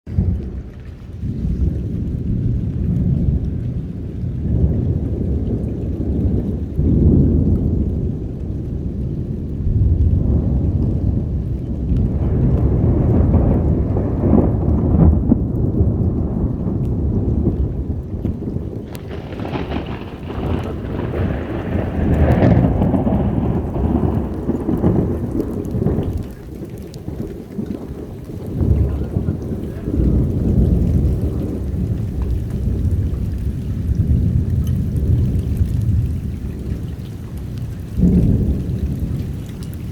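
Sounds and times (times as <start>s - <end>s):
steady heavy rain: 0.1s - 39.9s
thunder rumbling: 0.1s - 39.9s.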